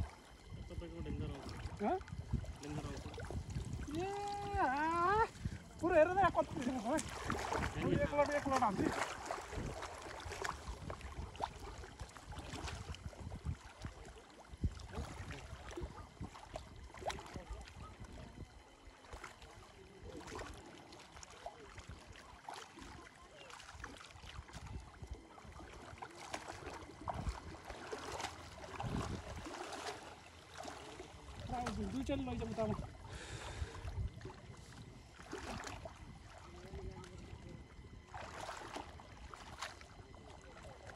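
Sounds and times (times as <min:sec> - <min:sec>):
water splashing and sloshing: 0:00.0 - 0:40.9.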